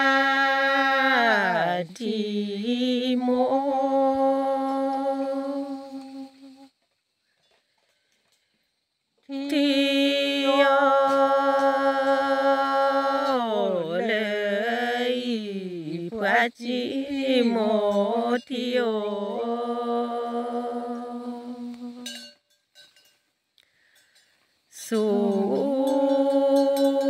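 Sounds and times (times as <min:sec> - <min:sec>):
person chanting solo: 0:00.0 - 0:06.7, 0:09.3 - 0:22.2, 0:24.8 - 0:27.0.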